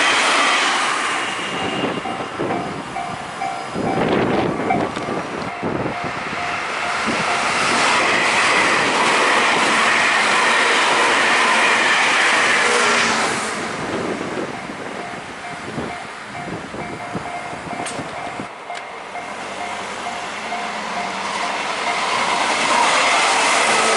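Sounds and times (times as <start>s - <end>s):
train passing at speed: 0.0s - 23.9s.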